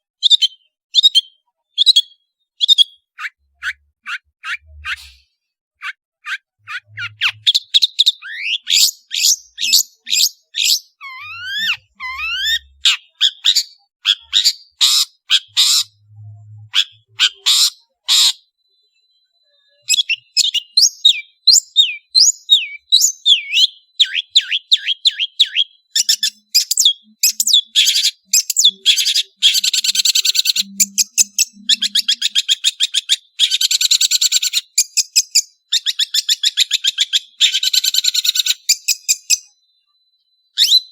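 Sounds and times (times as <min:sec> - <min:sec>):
shrike singing chirps and trills: 0:00.2 - 0:40.9.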